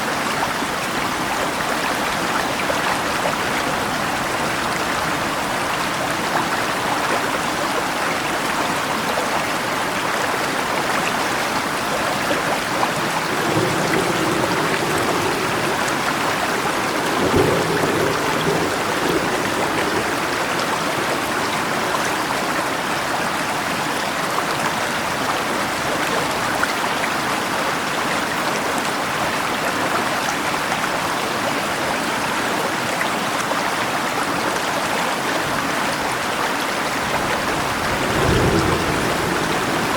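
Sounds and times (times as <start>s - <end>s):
rain: 0.0s - 39.9s
river rushing: 0.0s - 39.9s.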